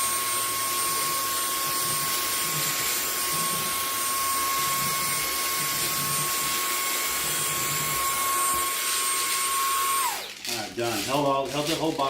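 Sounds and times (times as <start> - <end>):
handheld vacuum running: 0.0 - 12.0.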